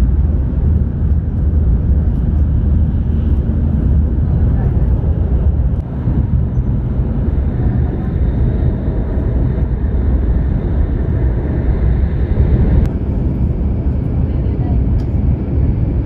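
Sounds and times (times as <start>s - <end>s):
train rumble inside cabin: 0.0s - 16.0s.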